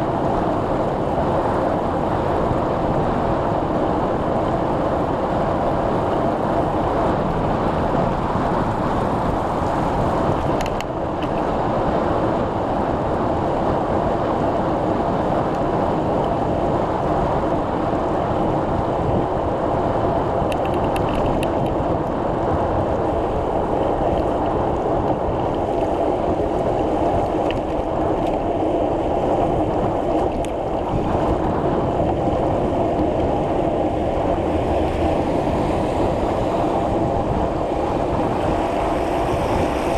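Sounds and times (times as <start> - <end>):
bicycle tyre hum: 0.0 - 39.9
wind rush: 0.0 - 39.9.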